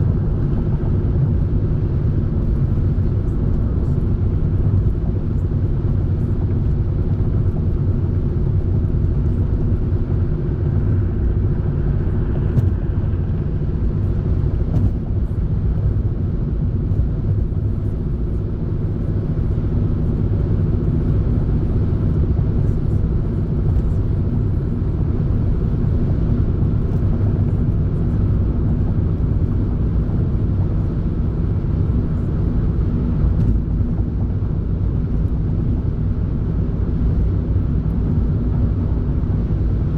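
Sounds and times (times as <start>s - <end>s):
road noise: 0.0s - 39.9s
vehicle engine hum: 0.0s - 39.9s.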